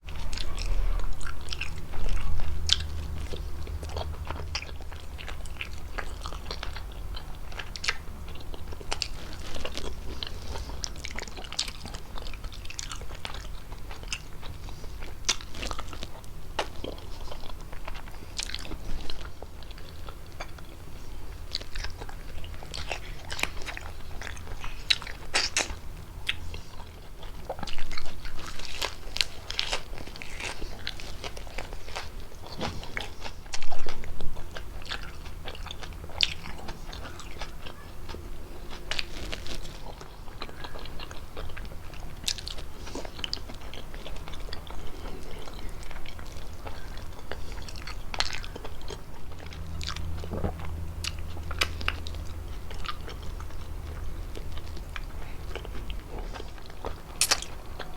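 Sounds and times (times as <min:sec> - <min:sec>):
wet chewing and mouth clicks: 0:00.1 - 0:57.9.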